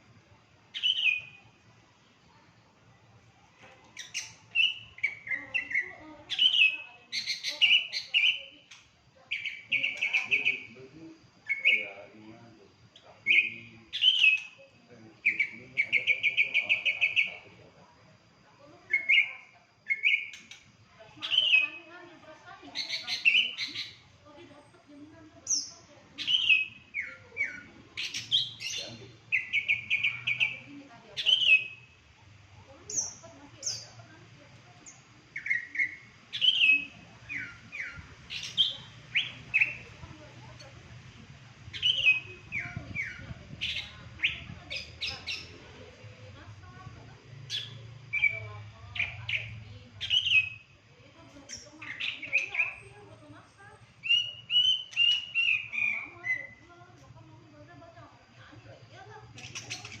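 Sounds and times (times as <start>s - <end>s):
songbird singing: 0.0s - 17.7s, 18.3s - 60.0s.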